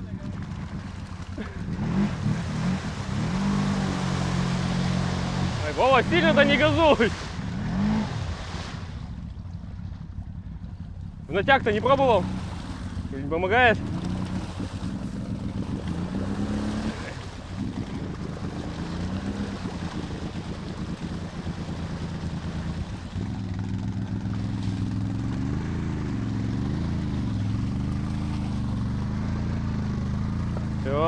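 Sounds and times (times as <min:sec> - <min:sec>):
atv engine revving: 0:00.0 - 0:31.0.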